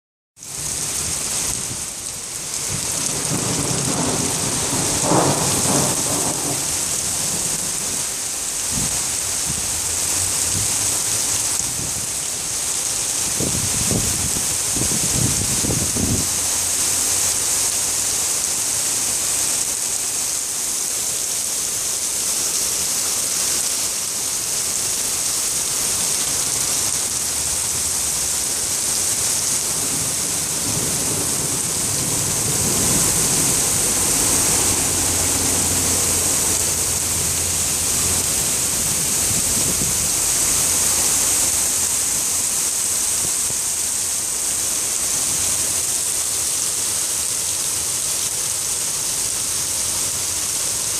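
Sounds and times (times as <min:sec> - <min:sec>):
steady rain falling: 0:00.4 - 0:50.9.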